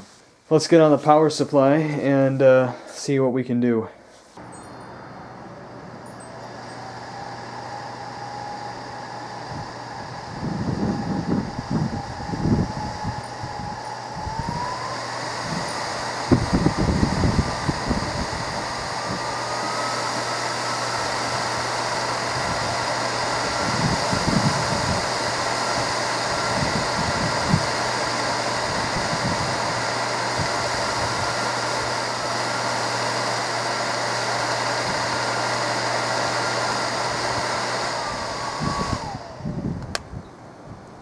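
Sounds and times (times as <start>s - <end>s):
blower fan whirring: 4.1s - 41.0s.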